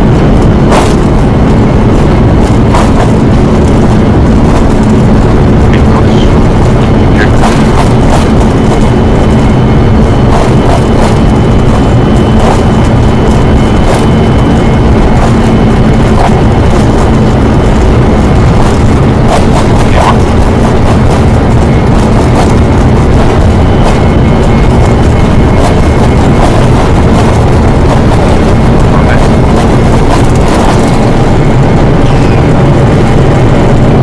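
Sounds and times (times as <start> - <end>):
loud aircraft engine noise: 0.0 - 34.0.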